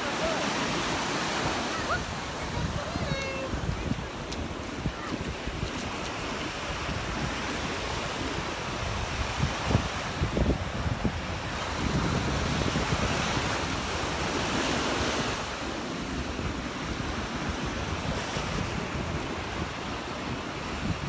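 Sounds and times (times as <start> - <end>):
surf breaking on a beach: 0.0 - 21.0
wind rumbling on microphone: 0.0 - 21.0.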